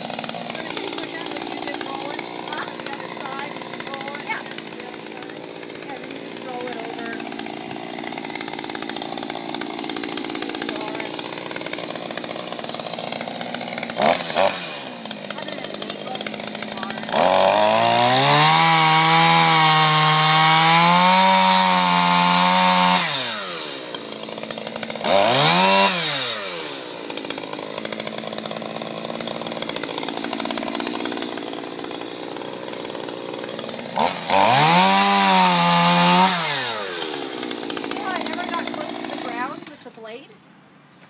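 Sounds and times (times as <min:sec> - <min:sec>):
chainsaw revving and idling: 0:00.0 - 0:40.4.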